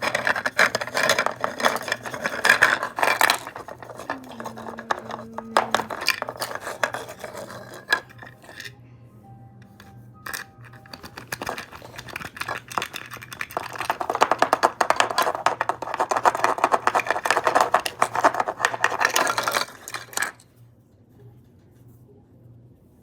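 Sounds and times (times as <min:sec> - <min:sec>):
small hard objects clattering: 0:00.0 - 0:08.7, 0:10.3 - 0:20.5.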